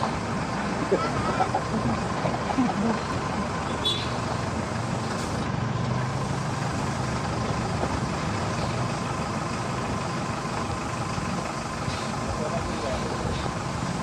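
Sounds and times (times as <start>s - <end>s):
road noise: 0.0s - 14.0s
truck engine running: 0.0s - 14.0s.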